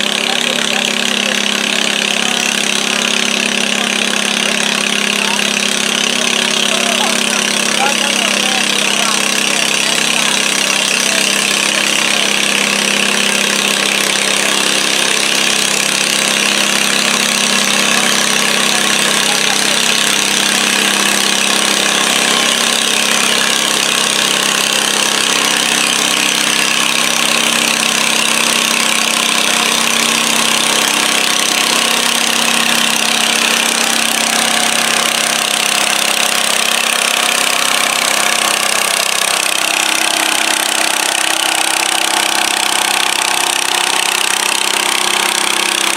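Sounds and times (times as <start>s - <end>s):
tractor engine under load: 0.0s - 45.9s.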